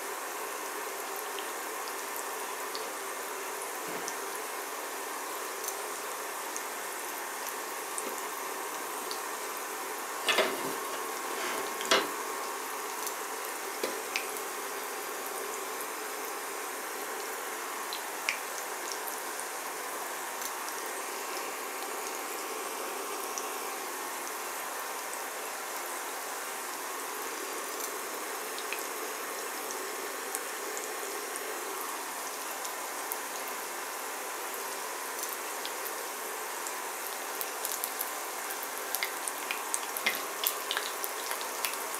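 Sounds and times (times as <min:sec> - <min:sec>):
food sizzling in oil: 0:00.0 - 0:41.9.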